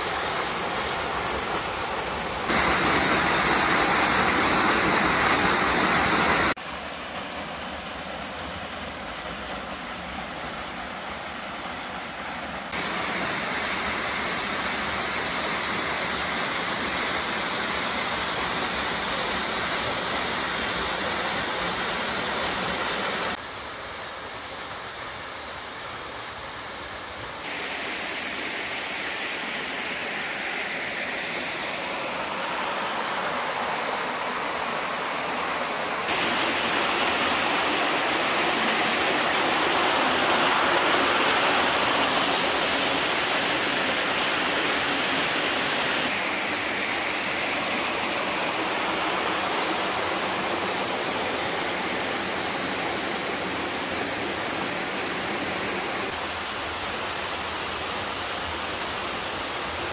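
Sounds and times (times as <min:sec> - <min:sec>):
waterfall rushing: 0:00.0 - 0:23.5, 0:26.1 - 0:59.9.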